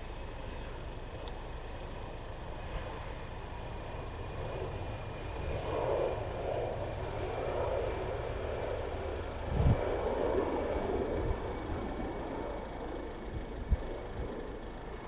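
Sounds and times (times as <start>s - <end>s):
distant jet engine rumble: 0.0s - 15.0s.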